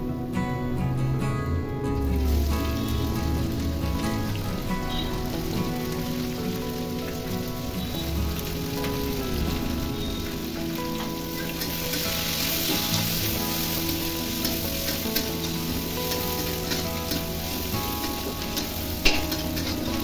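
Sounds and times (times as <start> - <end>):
onions sizzling in hot oil: 2.0 - 20.0.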